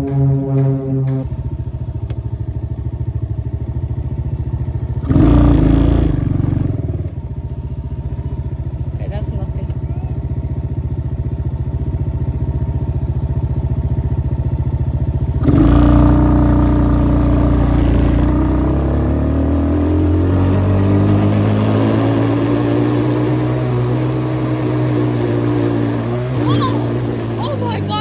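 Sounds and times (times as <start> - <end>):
small engine idling: 0.0 - 28.0
engine at high revs: 3.5 - 7.3, 8.2 - 28.0.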